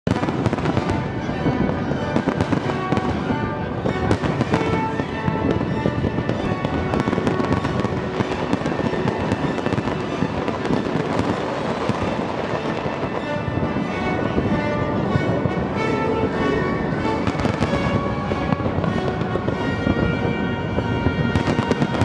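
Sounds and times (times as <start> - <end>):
fireworks bangs and crackling: 0.1 - 22.0
music playing: 0.2 - 22.0.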